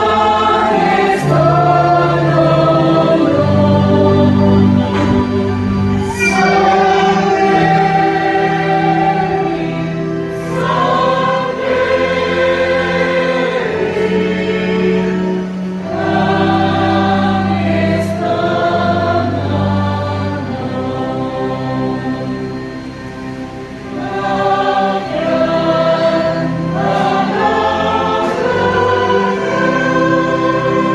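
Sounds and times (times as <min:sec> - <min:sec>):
choir singing long chords: 0:00.0 - 0:30.9.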